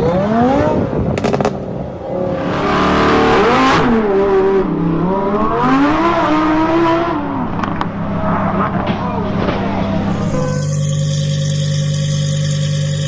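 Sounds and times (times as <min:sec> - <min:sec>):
sports car engine revving: 0:02.2 - 0:13.0.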